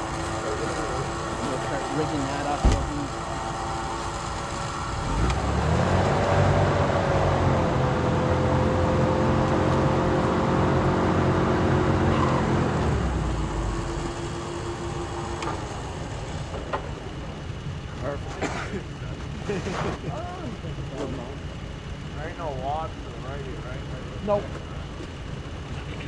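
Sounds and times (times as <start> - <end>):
tracked vehicle engine revving: 0.0 - 26.0.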